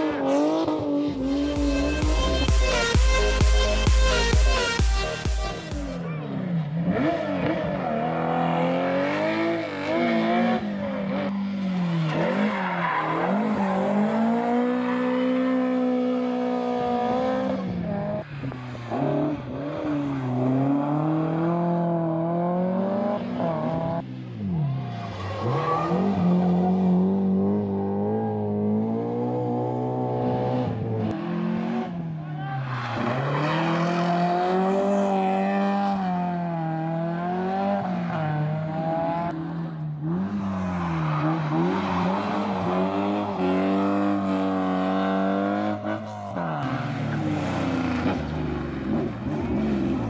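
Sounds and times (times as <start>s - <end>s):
rally car engine revving: 0.0s - 50.0s.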